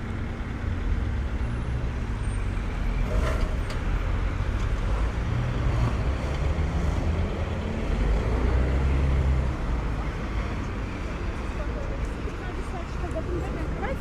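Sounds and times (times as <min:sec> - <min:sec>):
tyre and road noise: 0:00.0 - 0:14.0
vehicle engines passing: 0:00.0 - 0:14.0.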